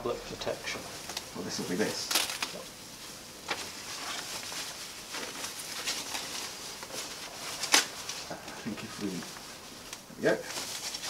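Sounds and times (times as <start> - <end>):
plastic wrapping crinkling: 0.4 - 11.0.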